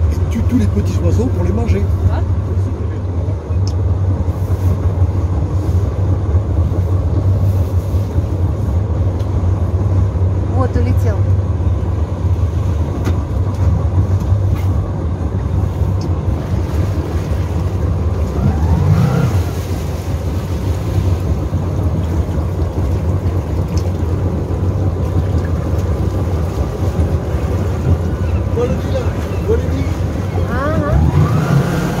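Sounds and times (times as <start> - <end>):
motorboat engine humming: 0.0 - 32.0.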